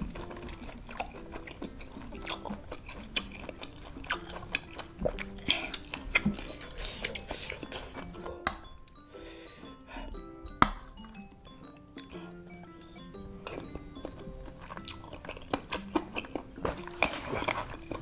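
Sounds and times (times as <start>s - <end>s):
light background music: 0.0s - 18.0s
person chewing: 0.0s - 18.0s.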